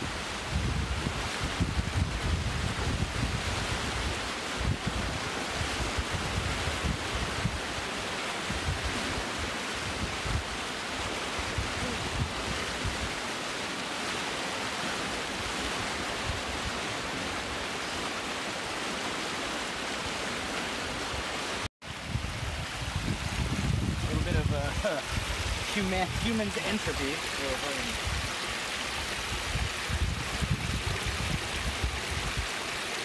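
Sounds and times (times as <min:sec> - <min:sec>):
creek rushing over rapids: 0:00.0 - 0:33.0.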